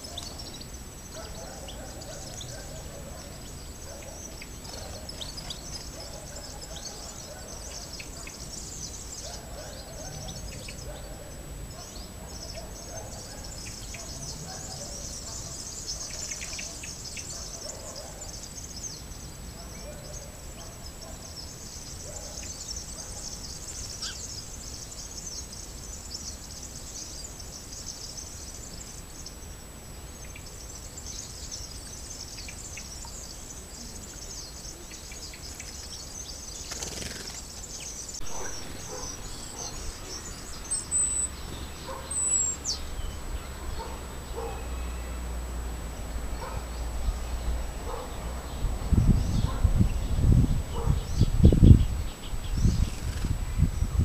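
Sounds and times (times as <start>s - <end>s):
faint constant high whine: 0.0s - 54.0s
small birds chirping: 0.0s - 54.0s.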